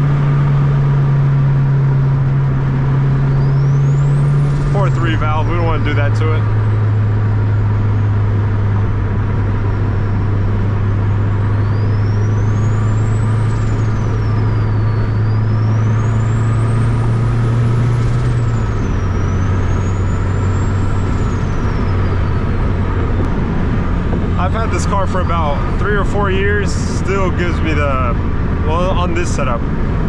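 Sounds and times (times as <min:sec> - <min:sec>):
car engine and exhaust droning: 0:00.0 - 0:30.0
road noise: 0:00.0 - 0:30.0.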